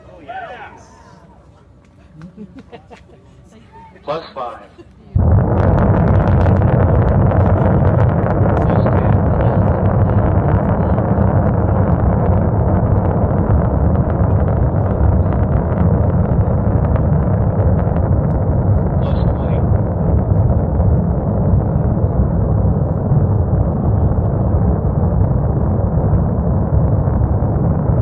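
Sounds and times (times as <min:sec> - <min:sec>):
rocket booster deep rumble: 0:05.2 - 0:28.0.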